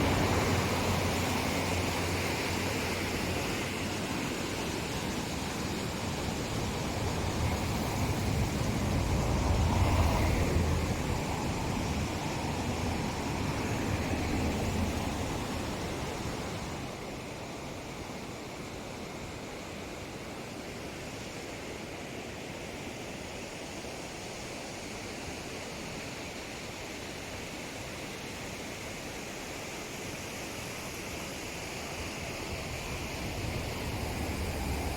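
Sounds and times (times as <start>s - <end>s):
rushing river water: 0.0s - 34.9s.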